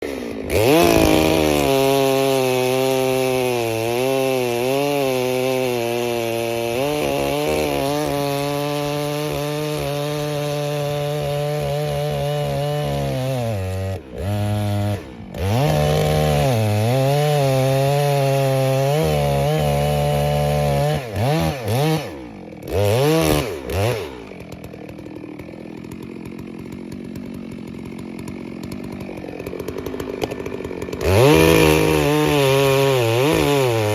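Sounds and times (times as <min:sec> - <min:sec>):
chainsaw revving and idling: 0:00.0 - 0:33.9.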